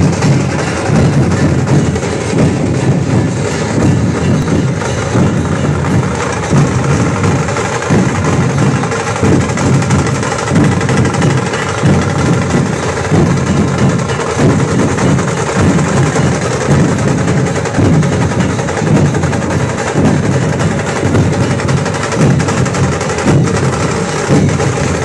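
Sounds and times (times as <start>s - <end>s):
heavy drum beats: 0.0s - 25.0s.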